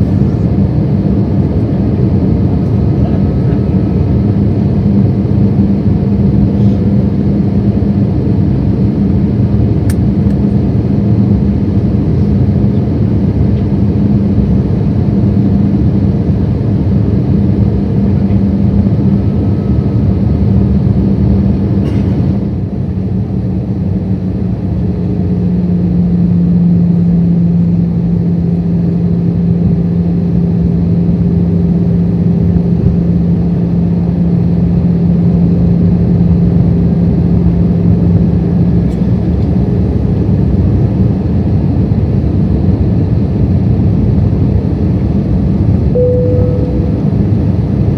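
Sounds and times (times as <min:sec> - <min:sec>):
airplane cabin engine drone: 0:00.0 - 0:47.9.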